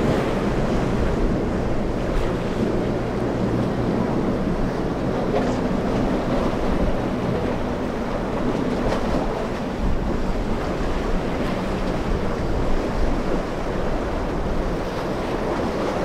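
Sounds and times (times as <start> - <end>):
outboard motors droning: 0.0 - 16.0
surf and choppy water: 0.0 - 16.0
wind buffeting microphone: 0.0 - 16.0.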